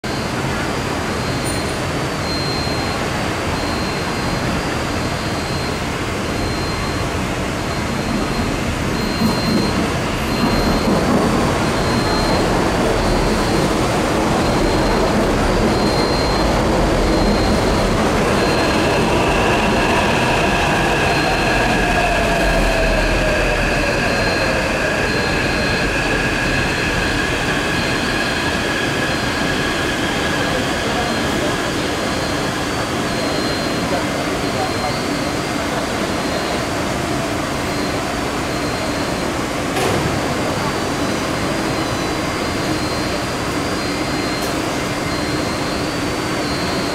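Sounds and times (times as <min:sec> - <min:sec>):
electric train arriving: 0:00.1 - 0:46.9
train electric whine: 0:02.2 - 0:46.9.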